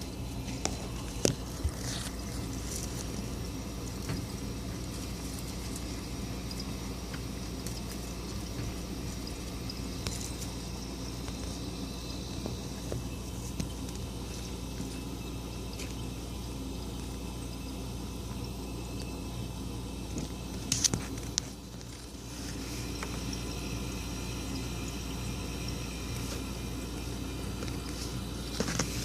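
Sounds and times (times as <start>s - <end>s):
refrigerator humming: 0.0s - 29.0s.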